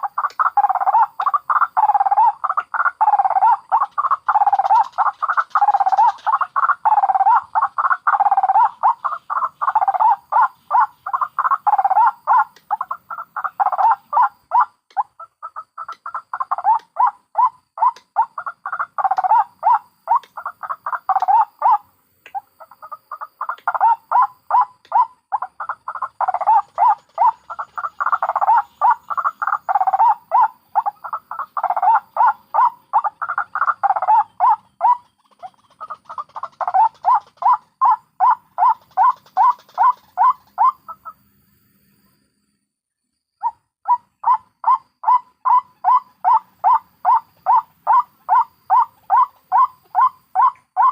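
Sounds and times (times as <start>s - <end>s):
waterhens cackling: 0.0s - 41.2s, 43.9s - 50.9s.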